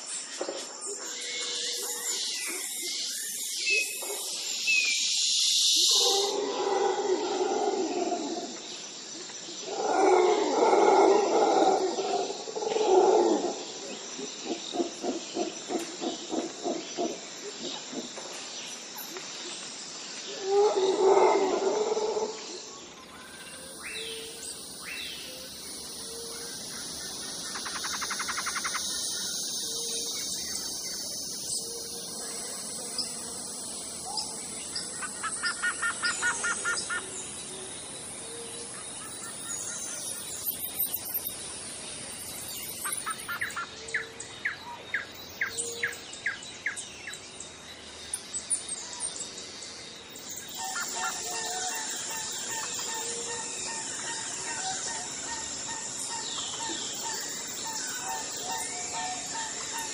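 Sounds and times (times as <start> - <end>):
songbirds calling: 0.0 - 59.9
steady high-pitched hiss: 0.0 - 59.9.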